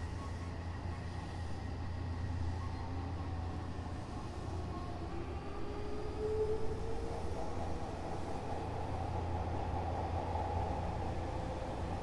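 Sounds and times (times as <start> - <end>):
train inverter and motor whine: 0.0 - 12.0
train rumbling on rails: 0.0 - 12.0.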